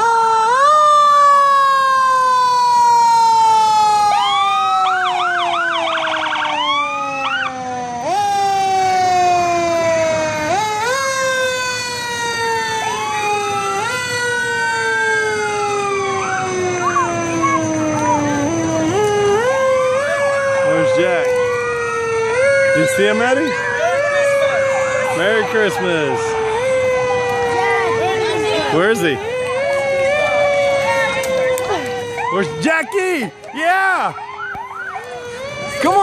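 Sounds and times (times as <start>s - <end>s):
fire engine siren wailing: 0.0s - 36.0s
whooping siren glides: 0.0s - 36.0s.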